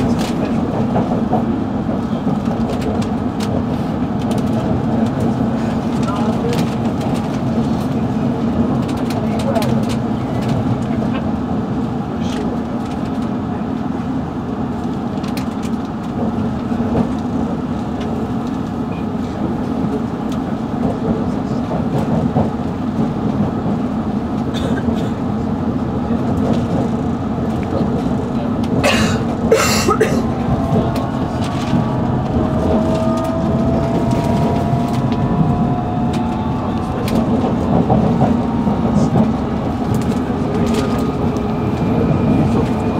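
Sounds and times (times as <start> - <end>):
train clicks and rattles: 0.0 - 42.9
train rumbling: 0.0 - 42.9.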